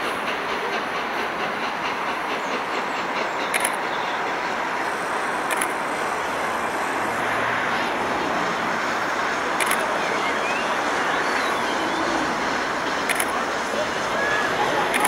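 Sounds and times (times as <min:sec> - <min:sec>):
steam locomotive working hard: 0:00.0 - 0:15.0.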